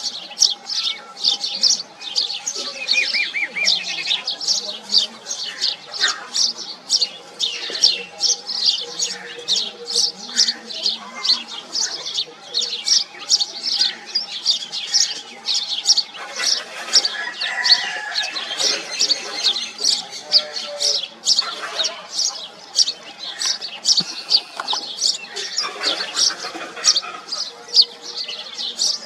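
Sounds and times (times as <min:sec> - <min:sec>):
sparrows chirping: 0:00.0 - 0:29.0.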